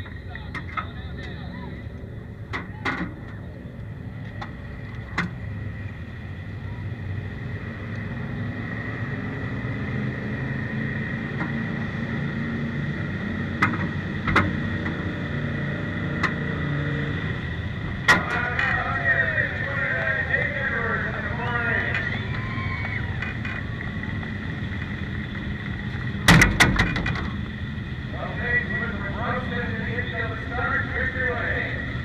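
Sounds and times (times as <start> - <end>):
race car engine running: 0.0 - 32.0.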